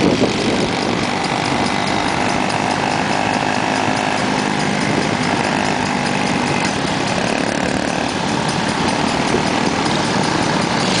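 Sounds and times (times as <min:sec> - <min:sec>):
small engines buzzing drone: 0:00.0 - 0:11.0.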